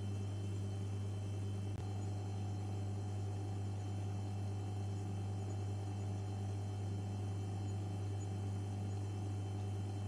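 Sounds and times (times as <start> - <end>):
deep electrical hum: 0.0 - 10.0.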